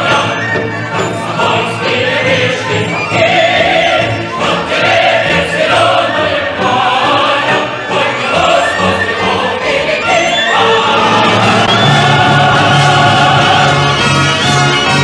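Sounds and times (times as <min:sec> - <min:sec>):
choir singing: 0:00.0 - 0:15.0
orchestra: 0:00.0 - 0:15.0.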